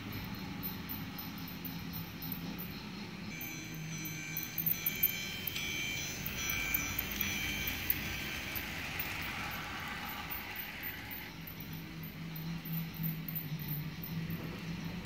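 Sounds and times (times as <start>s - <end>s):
chime-like ringing tones: 0.0s - 15.0s
toy train motor whirring: 0.0s - 15.0s.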